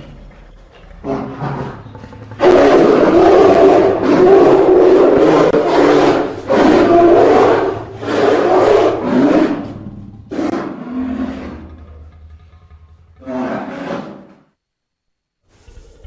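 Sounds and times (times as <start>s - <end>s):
low hum: 0.0s - 16.0s
rough creature roars: 1.0s - 14.4s.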